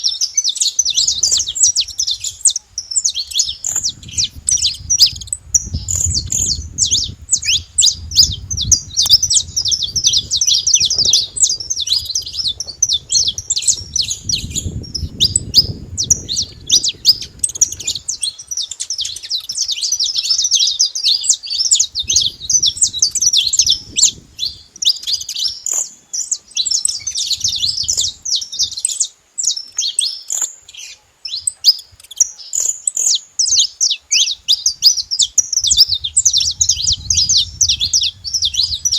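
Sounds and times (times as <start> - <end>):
flock of finches chirping: 0.0 - 38.9.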